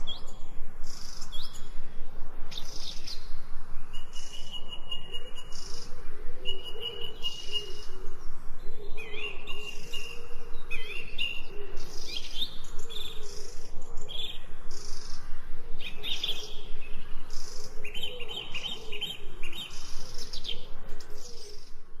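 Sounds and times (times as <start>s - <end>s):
birds chirping and singing: 0.0s - 22.0s.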